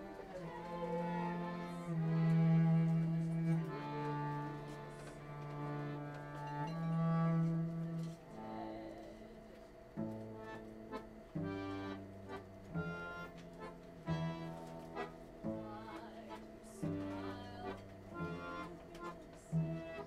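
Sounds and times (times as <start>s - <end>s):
bowed cello low notes: 0.0s - 9.1s, 11.4s - 18.9s
accordion chords: 0.0s - 20.0s.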